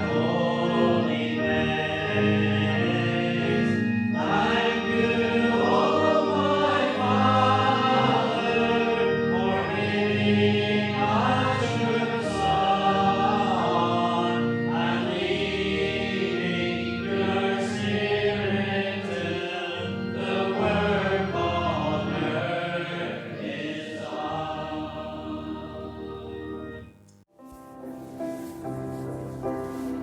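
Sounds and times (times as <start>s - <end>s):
choir singing a hymn: 0.0s - 26.9s
instrumental accompaniment: 0.0s - 30.0s.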